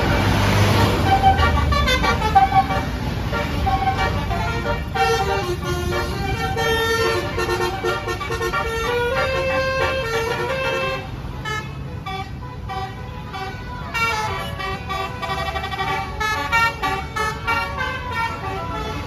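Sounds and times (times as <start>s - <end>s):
bus engine rumble: 0.0s - 19.0s
multi-tone air horn tune: 0.0s - 19.0s.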